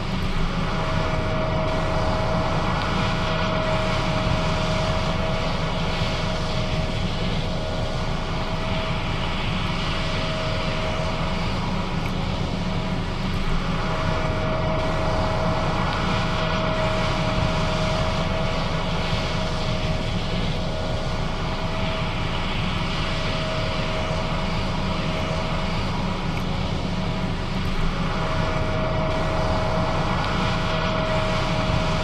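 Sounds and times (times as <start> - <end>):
steady mechanical whine: 0.0 - 32.0.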